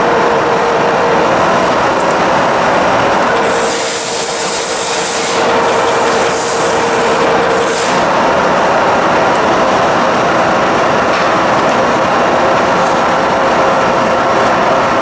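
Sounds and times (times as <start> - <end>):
milling machine whine: 0.0 - 15.0.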